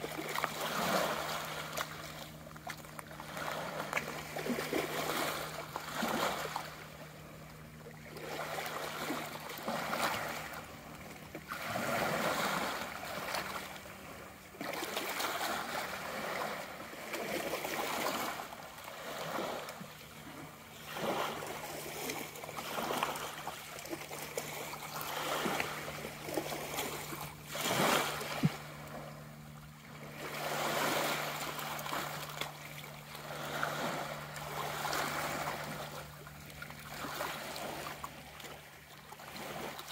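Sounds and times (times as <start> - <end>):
water lapping over rocks: 0.0 - 39.9.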